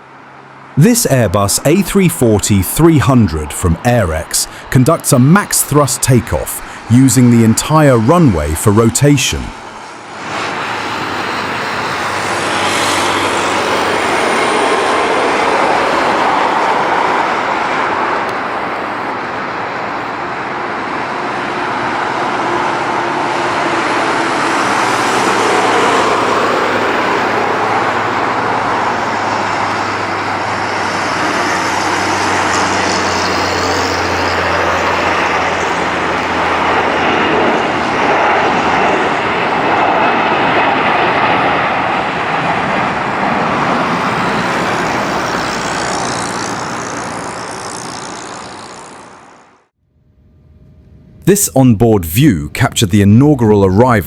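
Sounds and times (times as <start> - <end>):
jet engine roar: 0.0 - 49.7.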